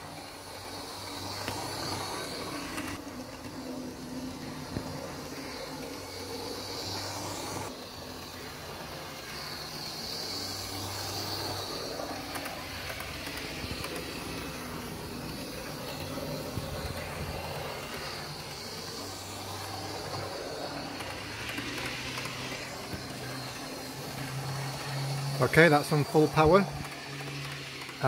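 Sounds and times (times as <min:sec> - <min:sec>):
model train motor whirring: 0:00.0 - 0:28.0
wheels rolling on rails: 0:00.0 - 0:28.0.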